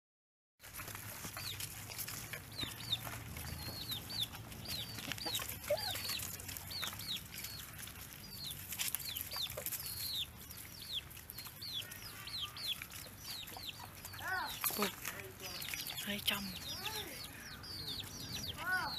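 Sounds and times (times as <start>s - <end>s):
chicks peeping: 0.7s - 18.9s.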